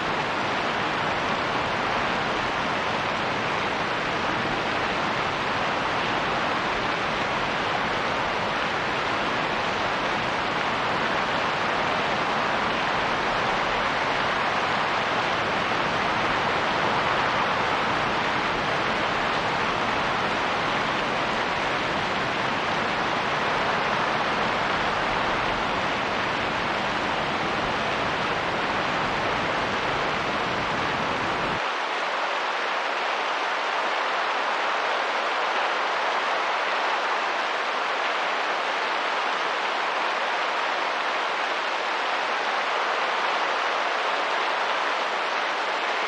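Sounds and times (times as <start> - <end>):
steady rain: 0.0 - 46.0
wind: 0.0 - 46.0.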